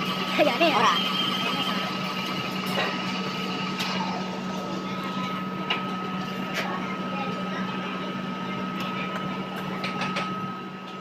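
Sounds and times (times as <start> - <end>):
metal lathe humming and whining: 0.0 - 9.6.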